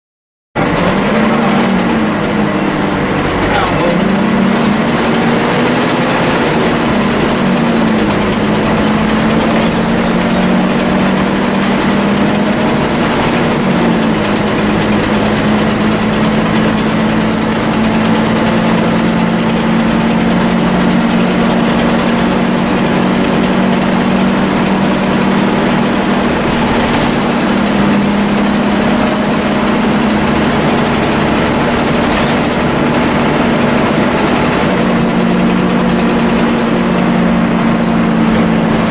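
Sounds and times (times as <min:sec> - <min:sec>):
diesel bus engine whining: 0:00.6 - 0:38.9.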